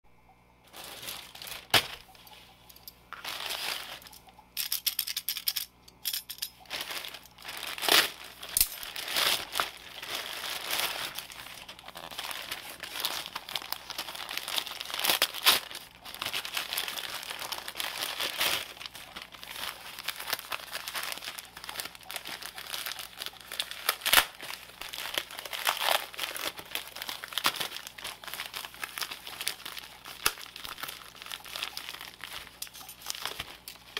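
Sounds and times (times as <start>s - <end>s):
wrapping paper crinkling: 0.6s - 5.2s, 6.4s - 33.9s.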